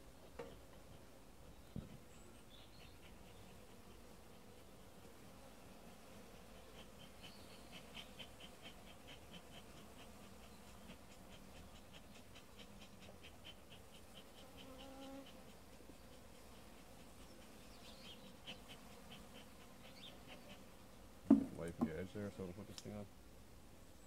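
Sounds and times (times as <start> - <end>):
honeybees buzzing: 0.6 - 23.0.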